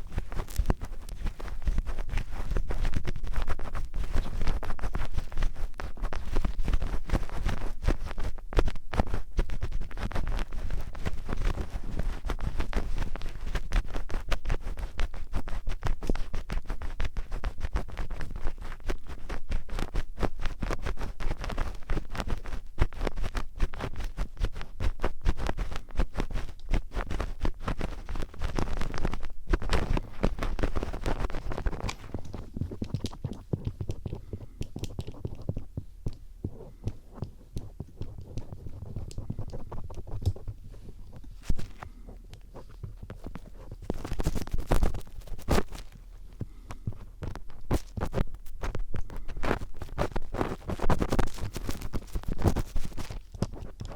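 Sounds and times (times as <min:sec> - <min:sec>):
screwdriver scratching near microphone: 0:00.0 - 0:19.9, 0:20.6 - 0:53.9.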